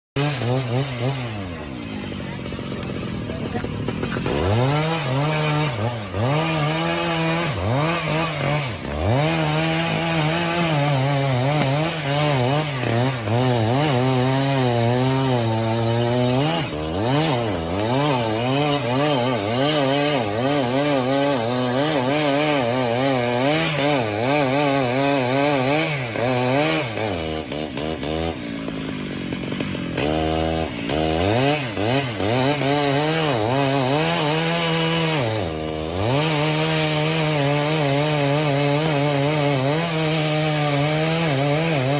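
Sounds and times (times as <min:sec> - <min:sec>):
chainsaw cutting wood: 0:00.2 - 0:41.9.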